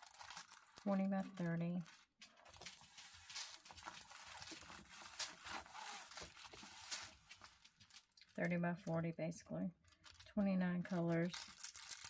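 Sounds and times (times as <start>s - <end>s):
packaging rustling: 0.0s - 8.6s, 9.8s - 10.3s, 10.9s - 12.0s.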